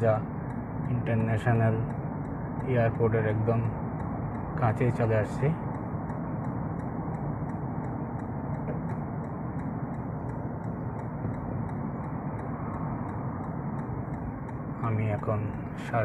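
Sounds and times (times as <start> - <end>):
road and engine noise in car: 0.0 - 16.0
turn indicator ticking: 0.0 - 16.0.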